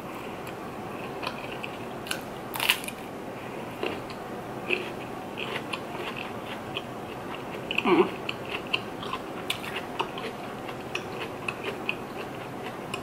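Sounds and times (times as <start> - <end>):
close chewing with mouth clicks: 0.3 - 2.7, 3.7 - 13.0.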